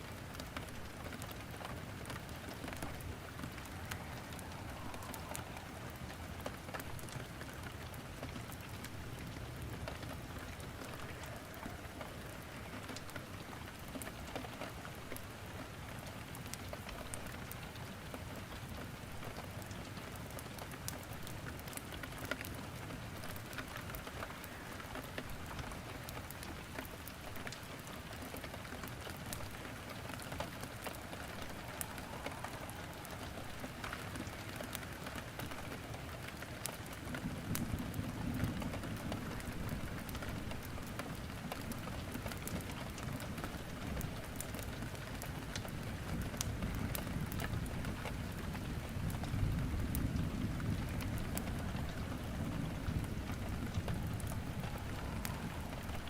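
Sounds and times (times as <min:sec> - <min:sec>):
rain falling: 0:00.0 - 0:56.0
firewood popping and crackling: 0:00.3 - 0:13.3, 0:20.3 - 0:56.0.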